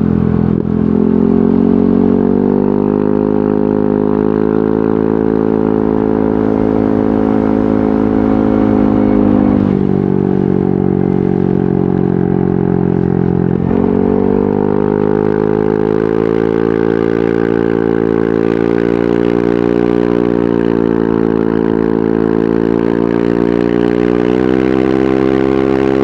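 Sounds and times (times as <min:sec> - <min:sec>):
motor scooter engine running: 0:00.0 - 0:26.0.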